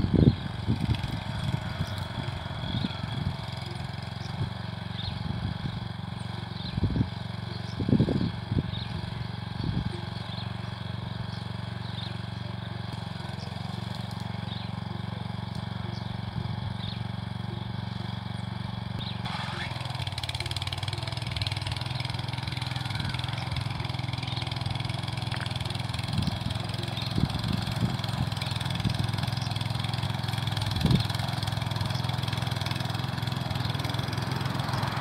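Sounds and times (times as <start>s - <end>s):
rotary tiller engine running: 0.0s - 35.0s
tines churning dry soil: 0.0s - 35.0s.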